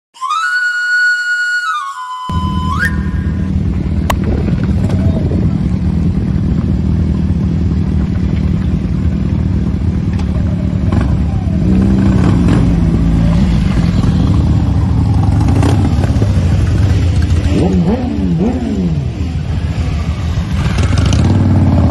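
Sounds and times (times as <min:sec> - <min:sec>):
motorcycle engines rumbling: 0:02.3 - 0:21.9.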